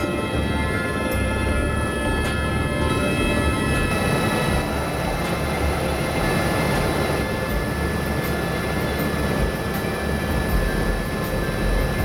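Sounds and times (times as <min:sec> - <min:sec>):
helicopter engine and rotor drone: 0:00.0 - 0:12.0
high-pitched whine: 0:00.0 - 0:12.0.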